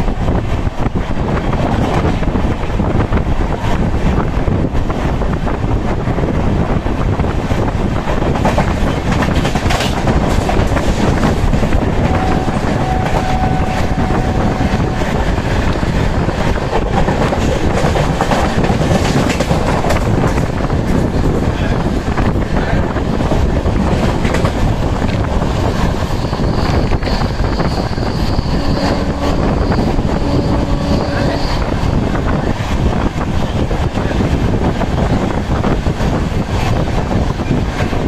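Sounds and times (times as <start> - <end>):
train rumble: 0.0 - 38.0.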